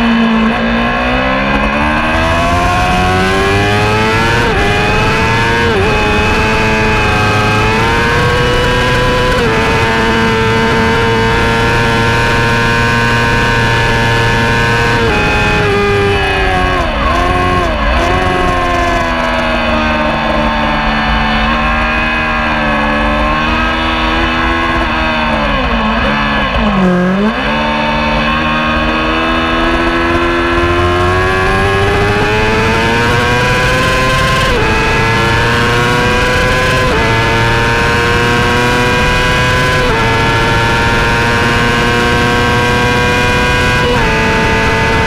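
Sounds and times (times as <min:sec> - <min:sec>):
racing motorcycle engine revving: 0:00.0 - 0:45.0.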